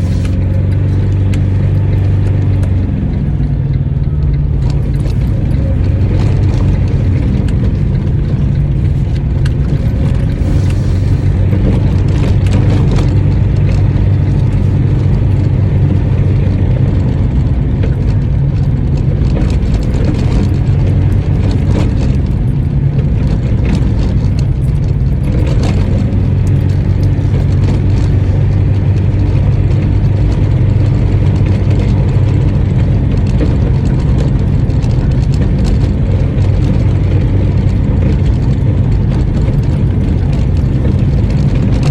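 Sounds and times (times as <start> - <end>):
small car engine humming: 0.0 - 41.9.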